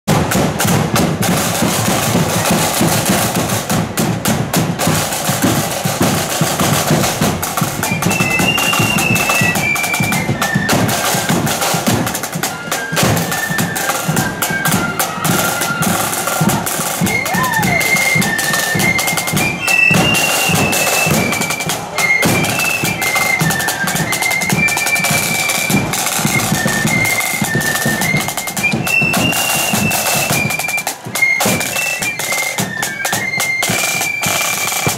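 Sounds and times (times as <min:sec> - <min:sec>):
snare and bass drums marching: 0:00.1 - 0:34.9
high flute melody: 0:01.2 - 0:03.8, 0:04.8 - 0:34.9.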